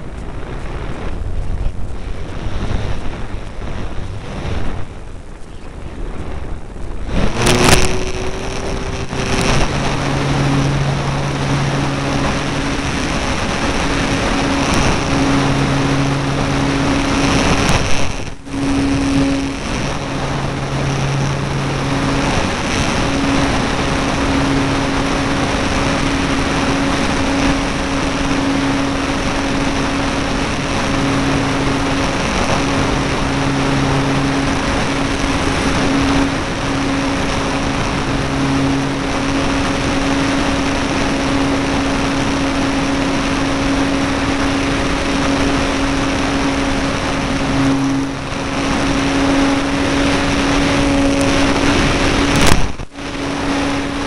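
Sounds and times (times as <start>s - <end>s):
electric motor and propeller humming: 0.0s - 54.0s
wind rushing over microphone: 0.0s - 54.0s.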